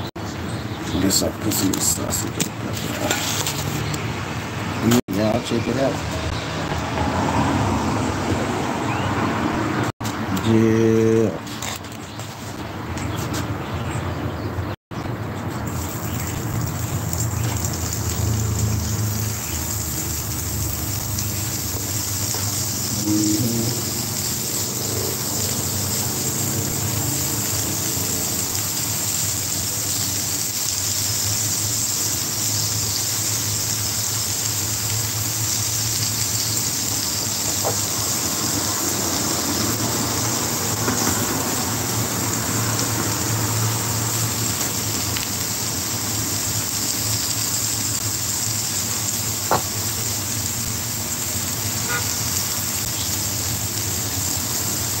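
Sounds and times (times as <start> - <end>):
batter and sausage sizzling on griddle: 0.0 - 9.1, 15.0 - 55.0.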